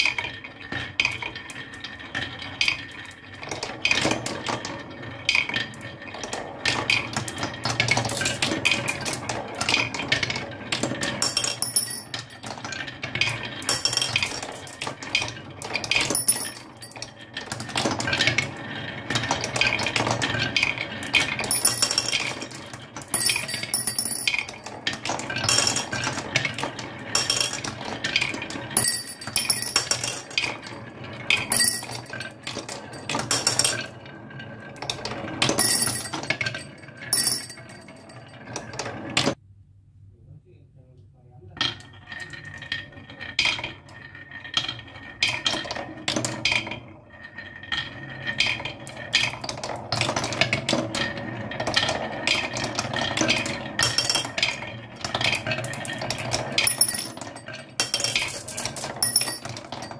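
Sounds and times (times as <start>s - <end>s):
marbles rolling on wooden run: 0.0s - 39.4s, 41.6s - 59.9s.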